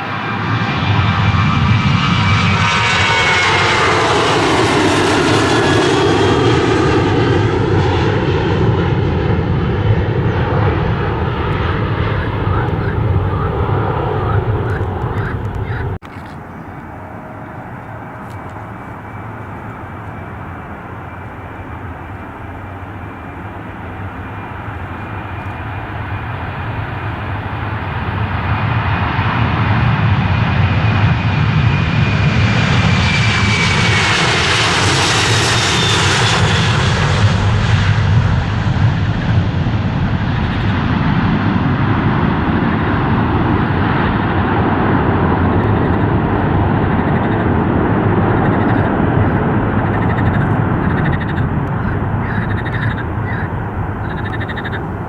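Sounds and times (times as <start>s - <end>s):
airliner passing by: 0.0s - 55.0s.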